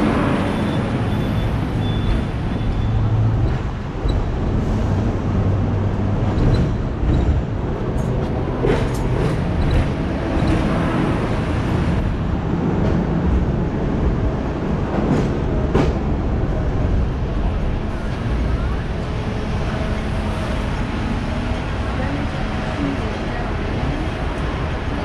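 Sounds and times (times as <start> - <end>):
street traffic: 0.0 - 25.0
tram rumbling on rails: 0.0 - 25.0.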